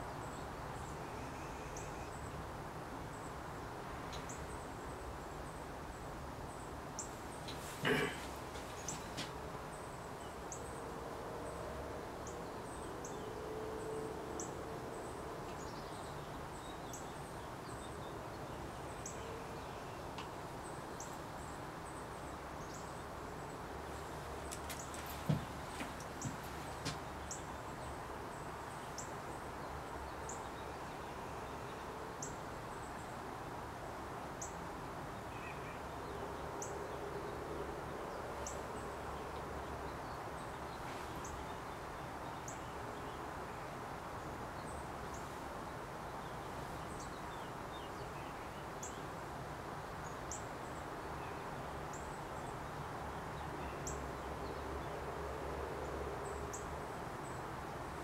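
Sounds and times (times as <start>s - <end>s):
background hum and hiss: 0.0s - 58.0s.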